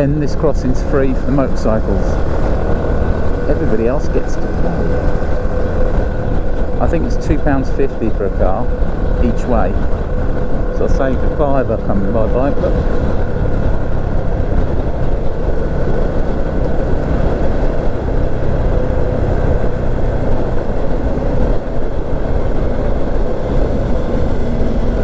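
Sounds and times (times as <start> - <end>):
motorcycle engine: 0.0 - 25.0
wind and road noise: 0.0 - 25.0.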